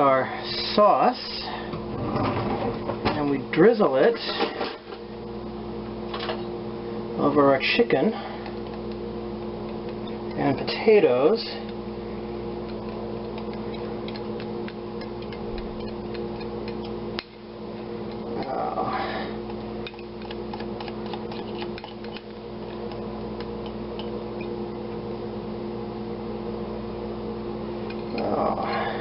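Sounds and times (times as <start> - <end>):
mechanical hum: 0.0 - 29.0.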